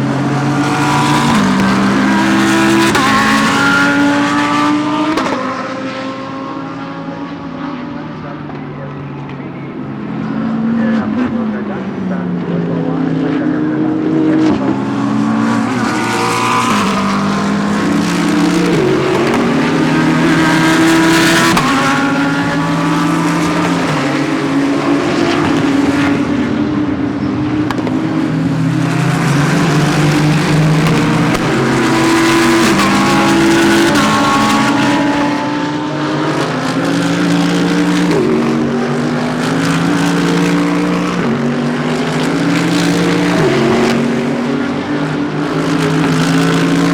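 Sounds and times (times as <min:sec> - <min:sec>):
race car engines passing: 0:00.0 - 0:46.9.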